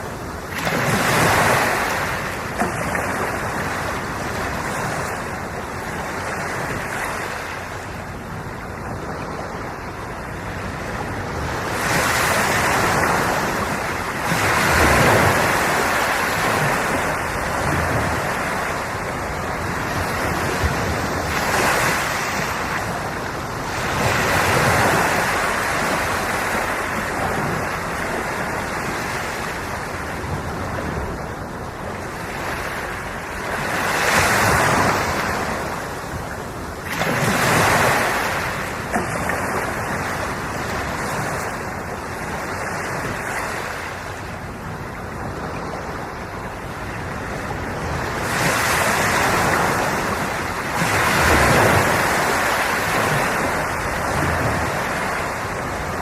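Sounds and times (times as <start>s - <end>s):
sea waves breaking on shore: 0.0s - 56.0s
wind buffeting microphone: 0.0s - 56.0s.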